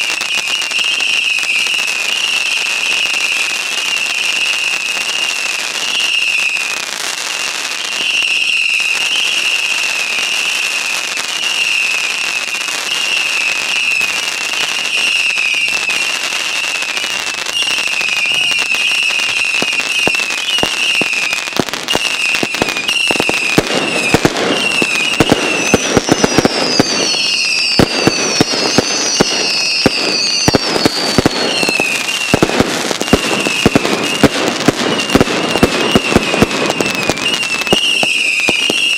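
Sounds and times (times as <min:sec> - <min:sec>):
firework cracks and crackling: 0:00.0 - 0:38.9
whistling fireworks: 0:00.0 - 0:38.9
falling whistles: 0:05.8 - 0:06.8, 0:07.8 - 0:10.7, 0:11.3 - 0:38.9.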